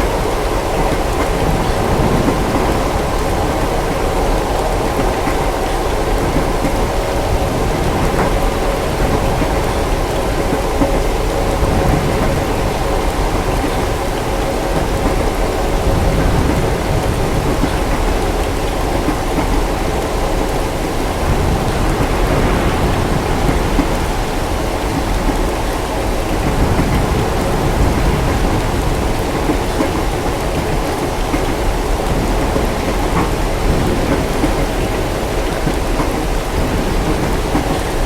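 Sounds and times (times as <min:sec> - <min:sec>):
distant thunder rumble: 0:00.0 - 0:38.0
steady rain: 0:00.0 - 0:38.0.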